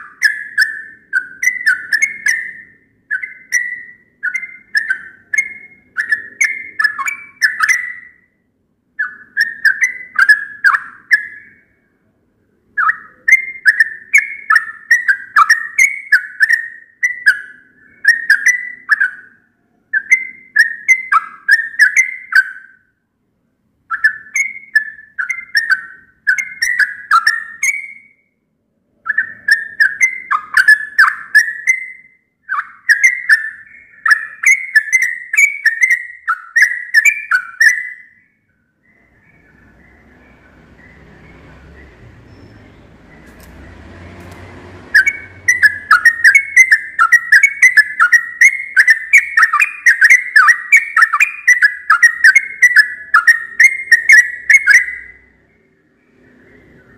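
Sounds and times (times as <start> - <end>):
bird singing whistled notes: 0.0 - 23.0, 23.8 - 56.9.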